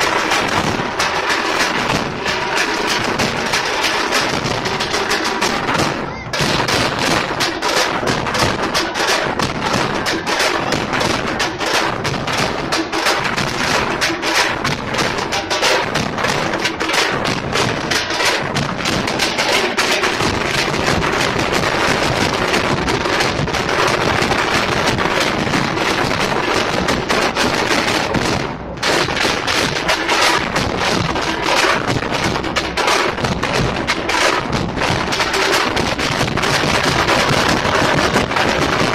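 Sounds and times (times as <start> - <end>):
bass drums: 0.0 - 38.9
frame drums beaten with sticks: 0.0 - 38.9.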